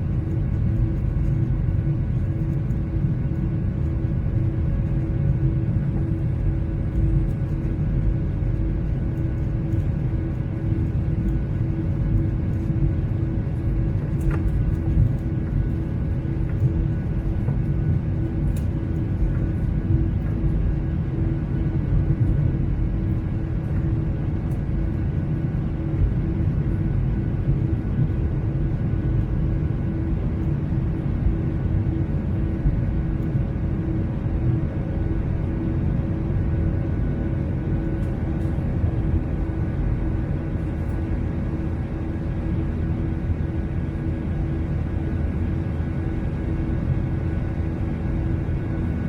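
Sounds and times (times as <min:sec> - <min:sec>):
constant hum: 0:00.0 - 0:49.0
jet airliner cabin noise: 0:00.0 - 0:49.0.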